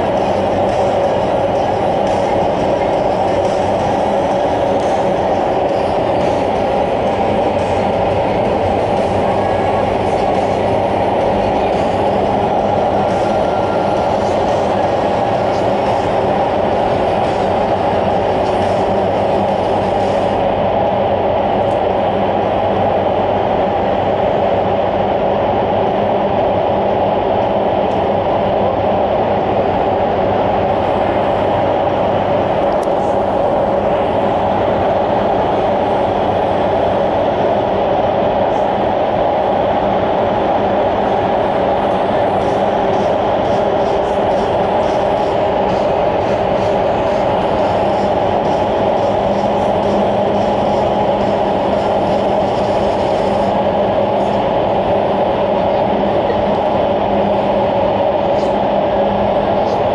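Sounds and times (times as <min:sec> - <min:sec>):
wind tunnel airflow roaring: 0:00.0 - 0:59.9.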